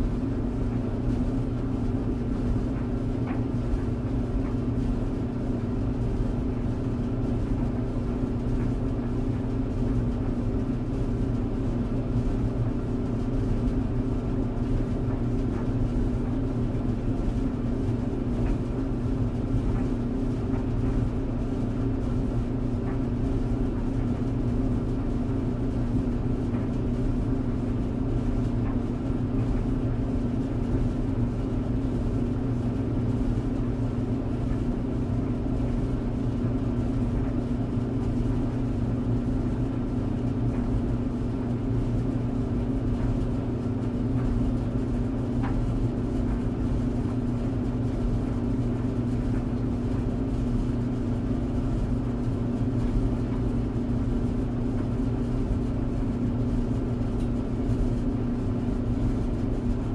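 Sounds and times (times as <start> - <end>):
tumble dryer running: 0.0 - 59.9.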